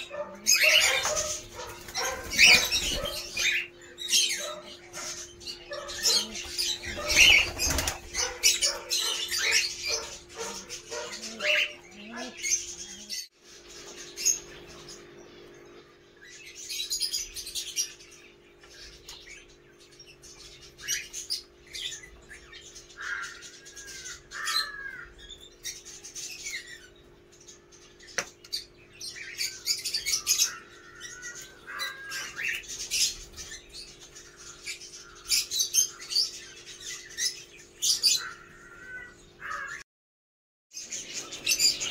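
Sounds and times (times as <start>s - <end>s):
birds chirping and calling: 0.0s - 39.8s, 40.7s - 41.9s.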